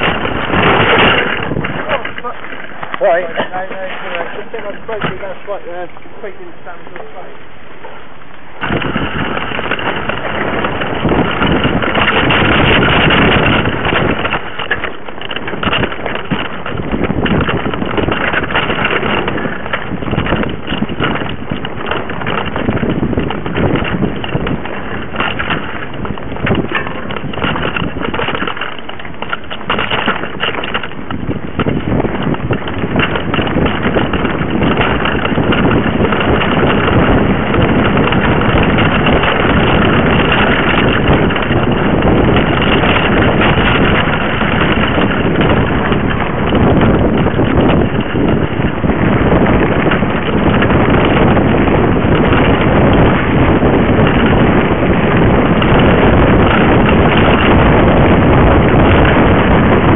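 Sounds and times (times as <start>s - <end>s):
bike rattling and knocking: 0.0s - 59.9s
bike tyre noise on dirt: 0.0s - 59.9s
wind buffeting microphone: 0.0s - 59.9s.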